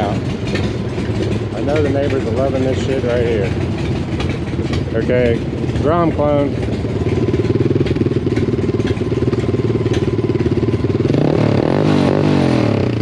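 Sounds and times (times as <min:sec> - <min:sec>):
mini motorcycle engine idling: 0:00.0 - 0:11.3
motorcycle engine revving: 0:00.0 - 0:13.0
motorcycle engines running: 0:00.0 - 0:13.0.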